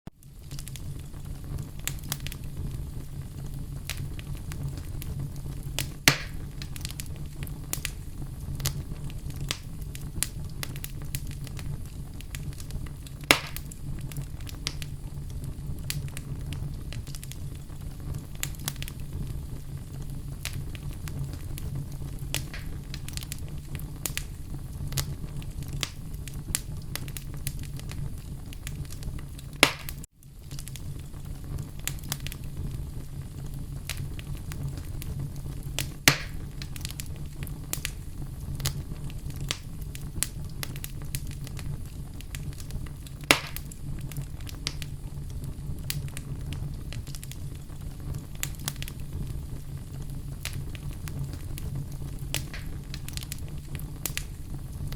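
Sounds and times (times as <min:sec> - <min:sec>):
low fire rumble: 0:00.1 - 0:54.9
wood fire crackling: 0:00.1 - 0:54.9
loud fire pops: 0:00.2 - 0:54.9.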